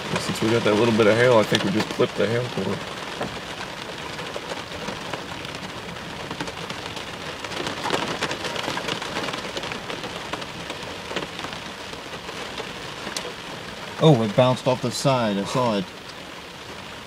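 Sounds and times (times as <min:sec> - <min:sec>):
rain hitting a car: 0:00.0 - 0:17.0.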